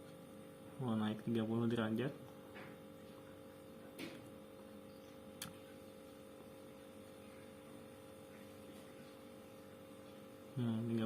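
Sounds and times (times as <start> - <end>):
refrigerator compressor hum: 0.0 - 11.0.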